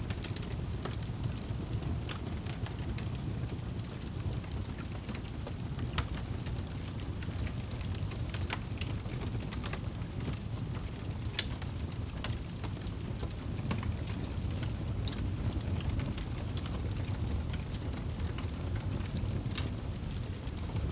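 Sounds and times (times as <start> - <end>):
fire crackling and popping: 0.0 - 20.9.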